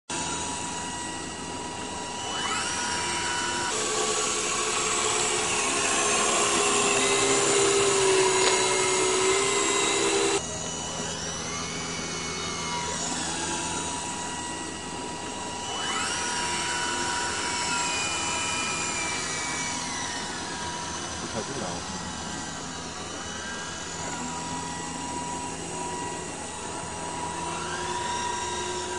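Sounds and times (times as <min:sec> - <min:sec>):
motor whining at high speed: 0:00.0 - 0:28.9.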